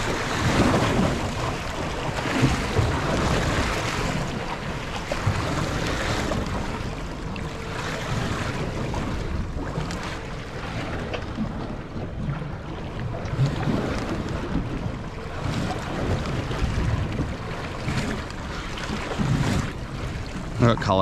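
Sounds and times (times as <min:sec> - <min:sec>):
waves slapping boat hull: 0:00.0 - 0:21.0
wind buffeting microphone: 0:00.0 - 0:21.0.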